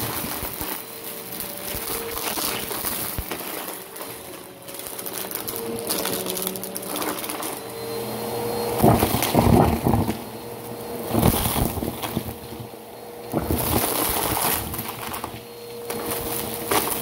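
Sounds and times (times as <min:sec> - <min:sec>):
debris crunching and rattling: 0:00.0 - 0:07.6, 0:08.8 - 0:10.3, 0:11.0 - 0:12.7, 0:13.3 - 0:17.0
vacuum cleaner motor hum: 0:00.0 - 0:17.0.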